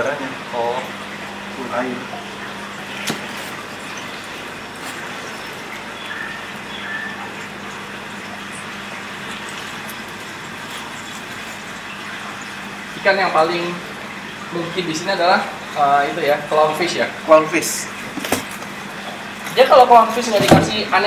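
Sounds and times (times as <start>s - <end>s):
aquarium pump hum: 0.0s - 21.0s
water rushing: 0.0s - 21.0s.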